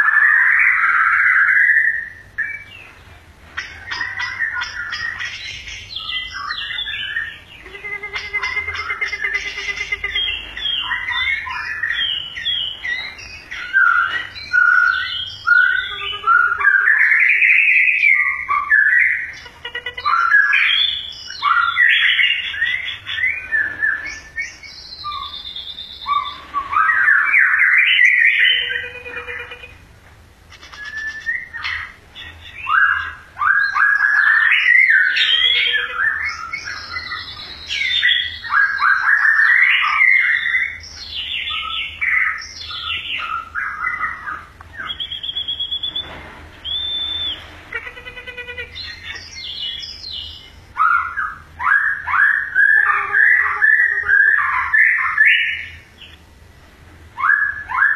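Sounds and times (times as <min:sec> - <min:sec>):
songbird whistling song: 0:00.0 - 0:03.0, 0:03.6 - 0:29.8, 0:30.5 - 0:56.2, 0:57.2 - 0:57.9.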